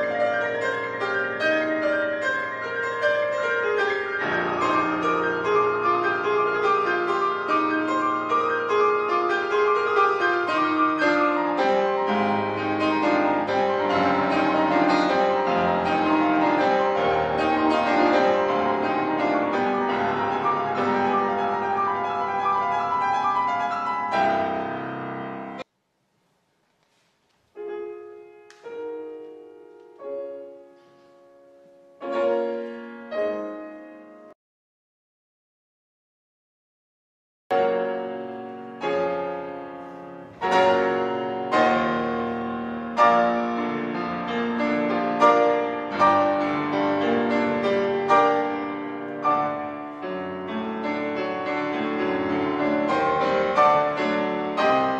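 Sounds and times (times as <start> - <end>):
solo piano playing: 0.0 - 25.7, 27.6 - 34.4, 37.5 - 54.9.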